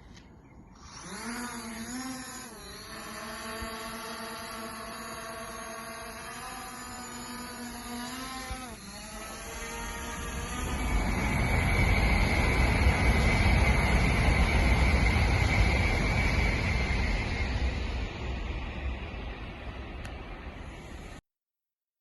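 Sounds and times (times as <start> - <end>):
drone motors whining: 0.0 - 21.2.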